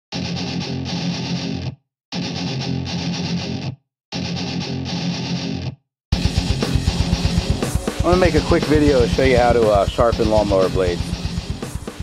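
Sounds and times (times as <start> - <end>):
distorted electric guitar: 0.1 - 12.0.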